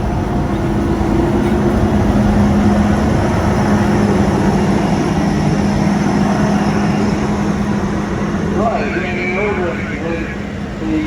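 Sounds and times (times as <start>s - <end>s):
farm machine engine droning: 0.0s - 11.0s.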